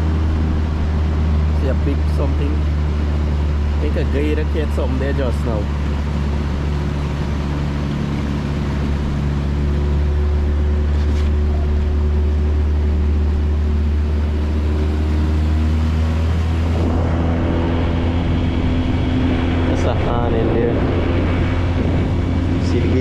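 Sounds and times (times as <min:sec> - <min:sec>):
motorboat engine running: 0:00.0 - 0:23.0
water and wind rush: 0:00.0 - 0:23.0.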